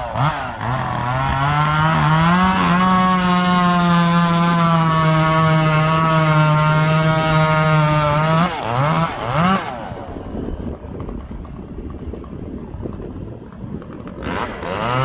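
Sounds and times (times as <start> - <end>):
chainsaw revving: 0.0 - 15.0
chainsaw running at full throttle: 0.0 - 15.0.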